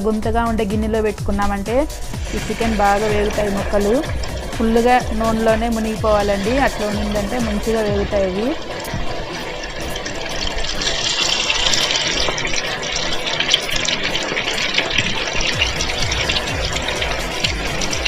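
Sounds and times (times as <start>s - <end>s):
chicken deep-frying in oil: 1.8s - 18.0s.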